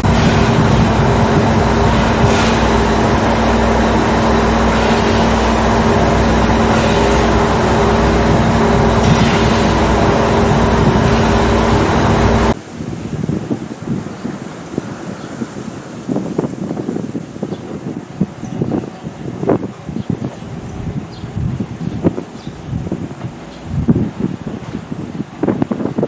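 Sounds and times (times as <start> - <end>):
diesel railcar engine droning: 0.0 - 26.0.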